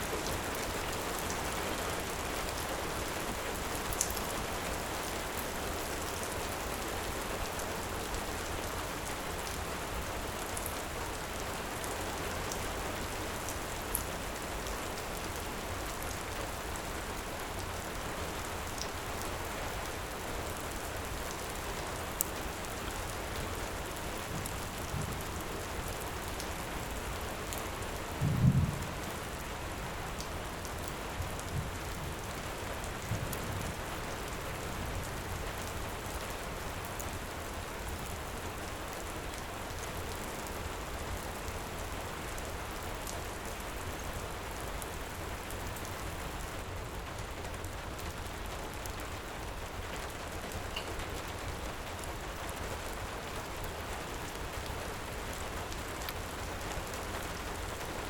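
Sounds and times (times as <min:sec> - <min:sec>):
faint wood fire crackles: 0:00.0 - 0:58.0
heavy rain: 0:00.0 - 0:58.0.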